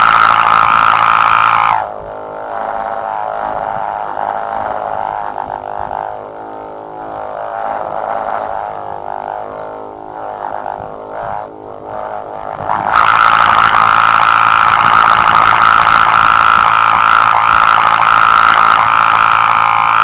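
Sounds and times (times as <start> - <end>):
tape buzzing in the wind: 0.0 - 20.0.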